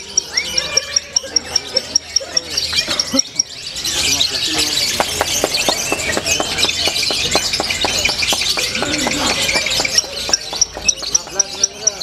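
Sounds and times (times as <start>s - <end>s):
lovebirds chirping and trilling: 0.0s - 12.0s.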